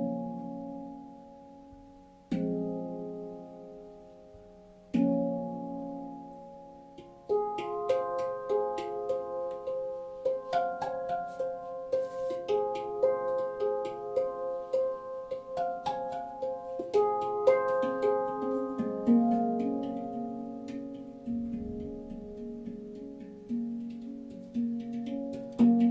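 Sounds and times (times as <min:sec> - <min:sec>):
handpan notes ringing: 0:00.0 - 0:25.9.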